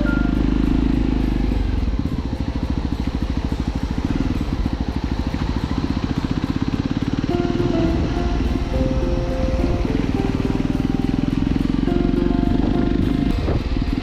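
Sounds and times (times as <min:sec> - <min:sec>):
background music: 0:00.0 - 0:14.0
motorcycle engine running: 0:00.0 - 0:14.0.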